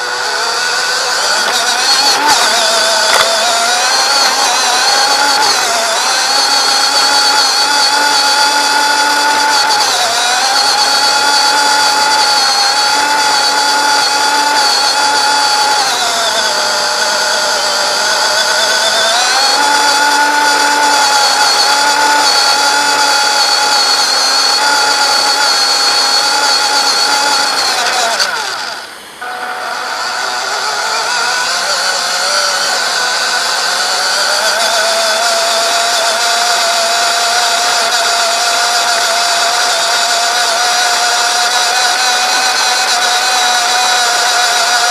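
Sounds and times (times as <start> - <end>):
electric rc car motor whining: 0.0 - 44.9.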